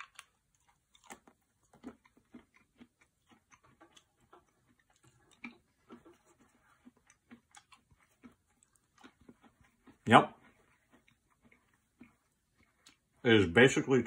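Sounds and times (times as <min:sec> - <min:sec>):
person chewing crunchy gum: 0:00.0 - 0:13.2.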